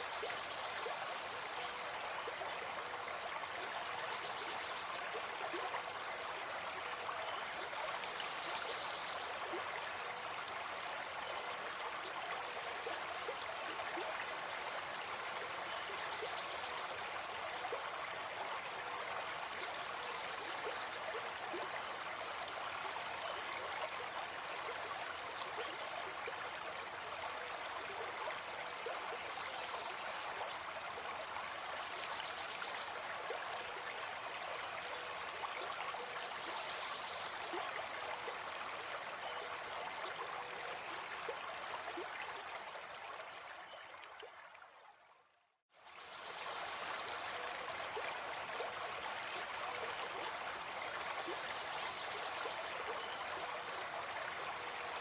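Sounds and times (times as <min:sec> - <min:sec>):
stream babbling: 0:00.0 - 0:44.6, 0:45.9 - 0:55.0.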